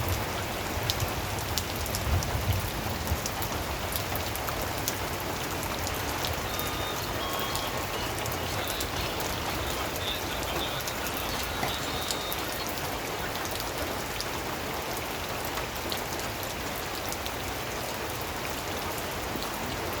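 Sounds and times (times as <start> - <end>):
rain drops striking surface: 0.0 - 20.0.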